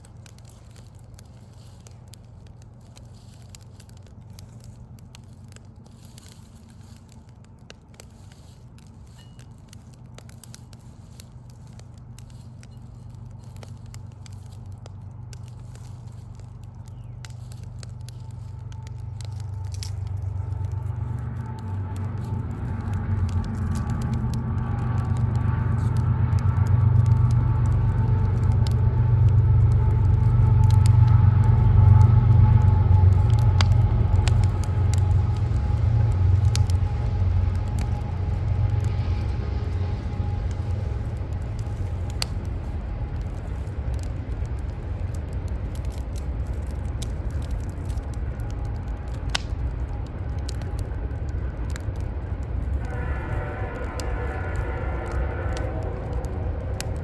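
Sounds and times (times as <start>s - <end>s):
city traffic rumble: 0.0s - 57.0s
engine drone: 0.0s - 57.0s
wood fire crackling: 0.0s - 57.0s.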